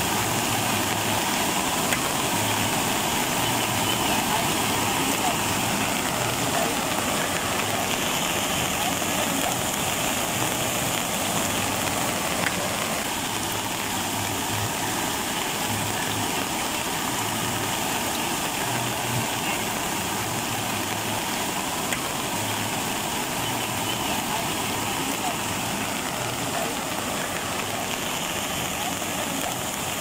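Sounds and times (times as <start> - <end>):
floodwater rushing: 0.0 - 30.0
rain hissing: 0.0 - 30.0.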